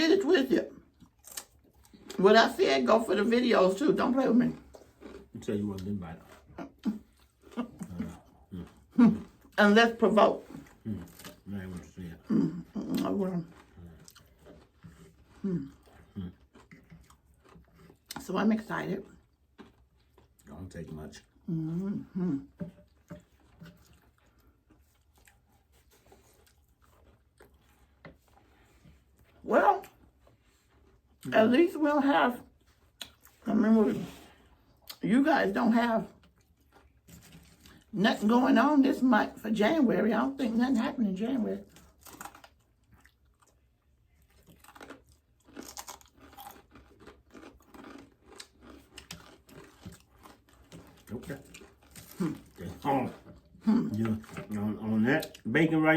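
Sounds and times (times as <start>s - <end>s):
chewing: 0.0s - 55.5s.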